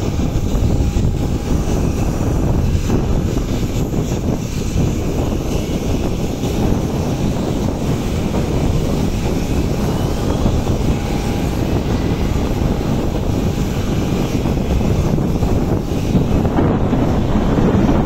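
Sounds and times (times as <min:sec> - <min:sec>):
jet engine noise: 0:00.0 - 0:18.0
wind buffeting microphone: 0:00.0 - 0:18.0.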